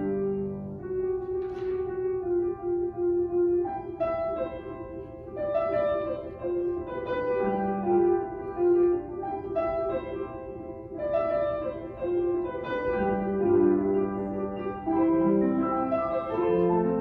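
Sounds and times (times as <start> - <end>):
grand piano melody: 0.0 - 17.0.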